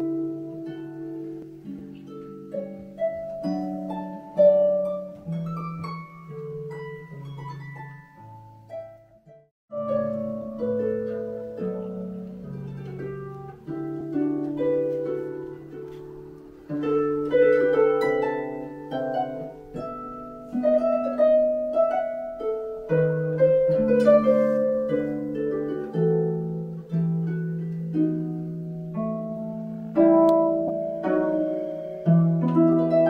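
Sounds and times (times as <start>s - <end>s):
harp playing: 0.0s - 33.0s.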